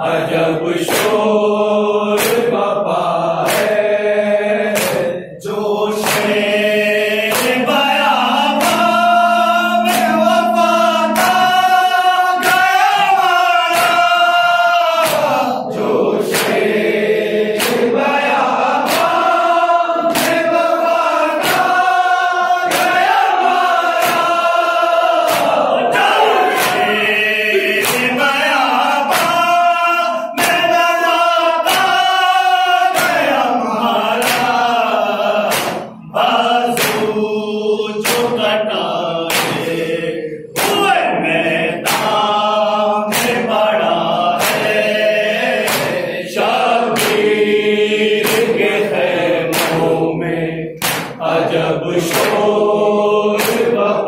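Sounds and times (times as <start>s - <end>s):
men chanting in unison: 0.0s - 54.0s
chest-beating slaps: 0.7s - 1.4s, 2.1s - 19.4s, 20.0s - 29.7s, 30.3s - 50.1s, 50.7s - 52.6s, 53.3s - 53.9s.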